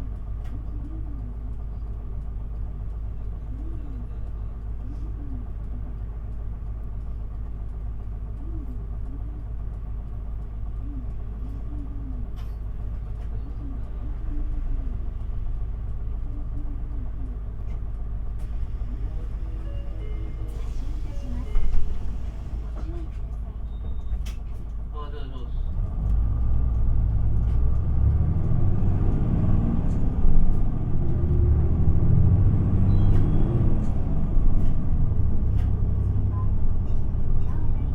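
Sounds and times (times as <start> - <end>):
bus engine and road rumble: 0.0 - 37.9
constant hum: 0.0 - 37.9.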